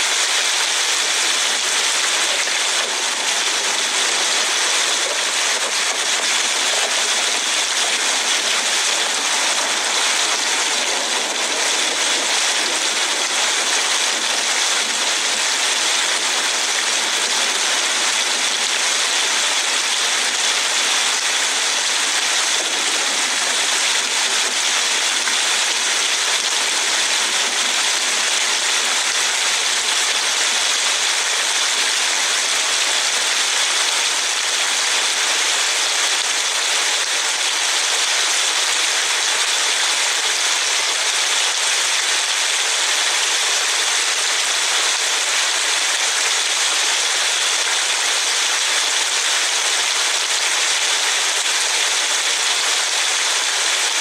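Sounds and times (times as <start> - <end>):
heavy rain hiss: 0.0 - 54.0
wet road spray: 0.0 - 54.0.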